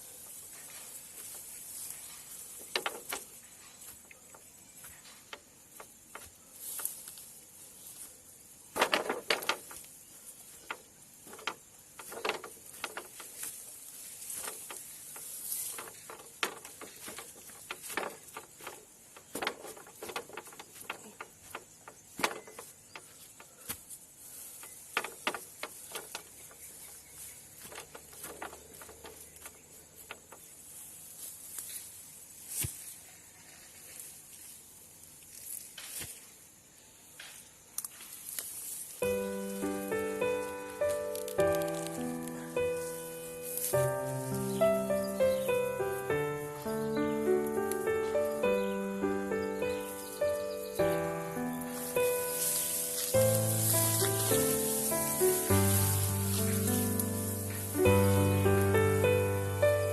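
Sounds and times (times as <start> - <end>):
hands rustling materials: 0.0 - 36.4, 37.8 - 59.9
faint steady hiss: 0.0 - 59.9.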